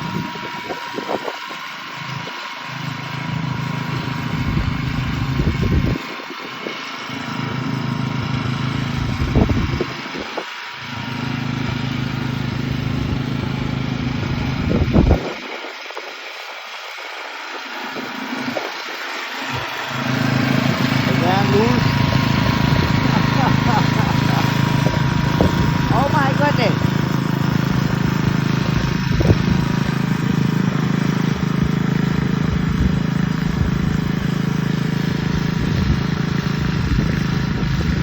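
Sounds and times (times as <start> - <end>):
lawn mower engine cutting grass: 0.0 - 38.0.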